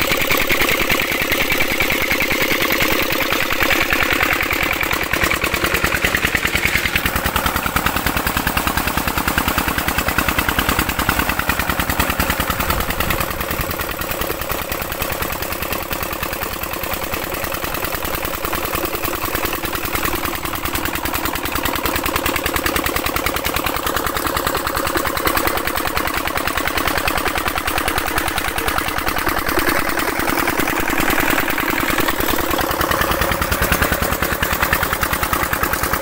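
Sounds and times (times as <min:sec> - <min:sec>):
pump engine thudding: 0:00.0 - 0:36.0.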